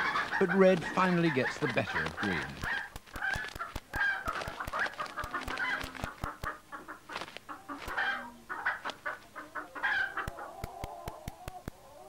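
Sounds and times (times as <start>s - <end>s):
hens calling: 0.0s - 12.0s.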